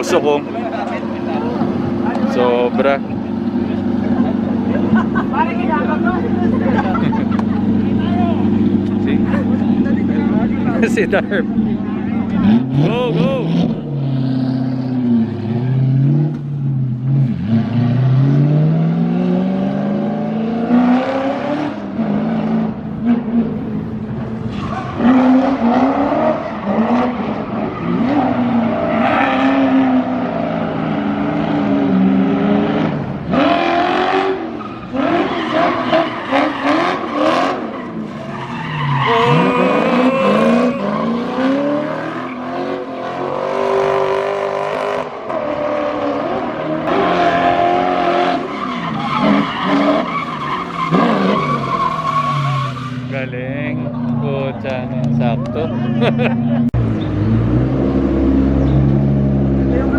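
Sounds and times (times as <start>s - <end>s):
sports cars accelerating: 0.0s - 59.9s.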